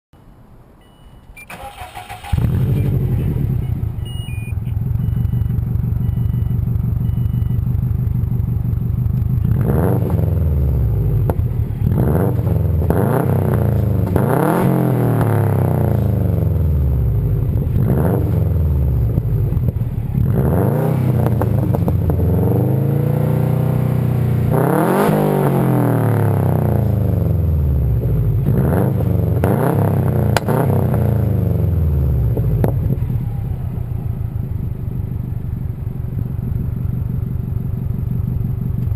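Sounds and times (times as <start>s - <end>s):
car engine idling and revving: 0.9s - 38.9s.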